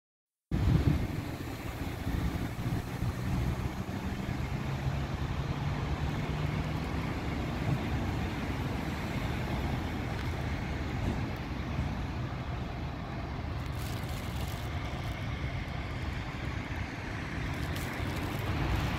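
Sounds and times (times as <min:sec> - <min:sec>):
outdoor background noise: 0:00.5 - 0:18.9
vehicle engine idling: 0:00.6 - 0:18.9.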